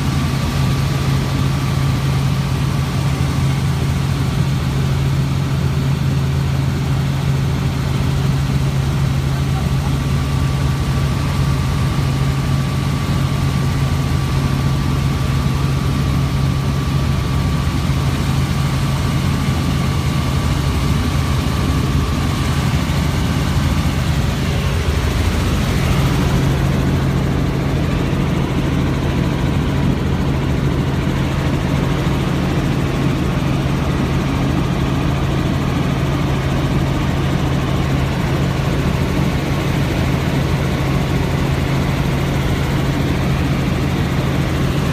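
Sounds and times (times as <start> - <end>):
helicopter engine and rotor drone: 0.0 - 44.9.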